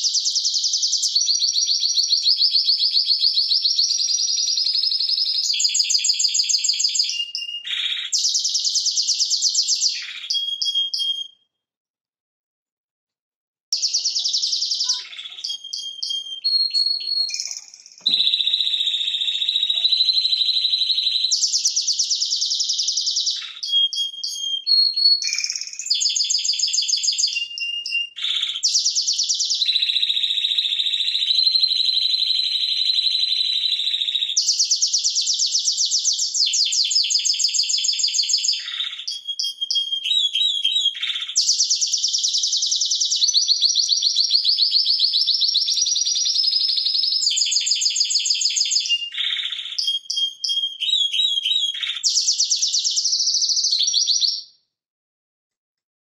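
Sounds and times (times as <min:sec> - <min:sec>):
canary singing trills: 0:00.0 - 0:11.3, 0:13.8 - 0:54.4.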